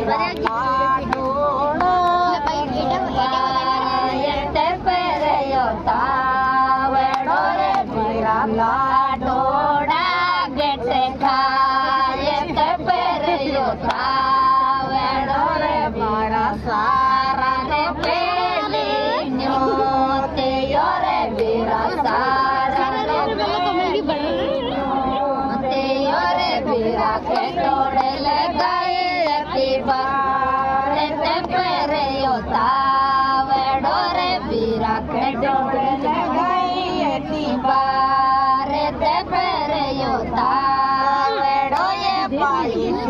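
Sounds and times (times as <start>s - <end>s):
women singing folk song: 0.0s - 43.0s.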